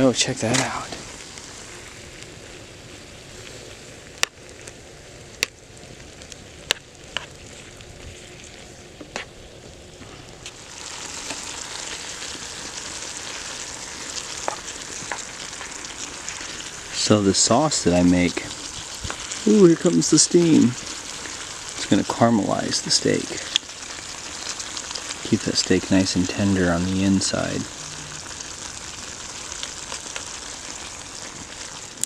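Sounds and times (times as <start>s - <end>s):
meat and onions sizzling in skillet: 0.0s - 32.0s.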